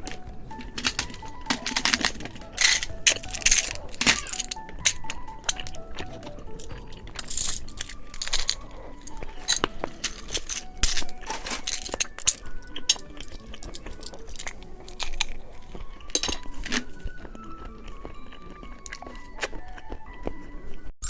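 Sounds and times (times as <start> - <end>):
candy crunching while chewed: 0.0 - 20.9.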